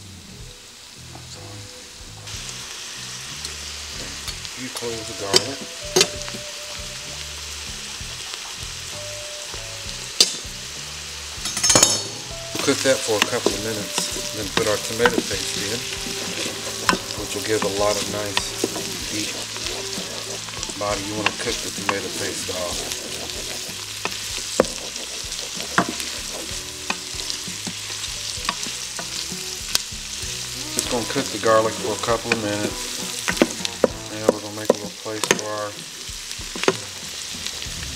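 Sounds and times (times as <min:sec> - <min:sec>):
vegetables sizzling in a pot: 0:00.0 - 0:37.9.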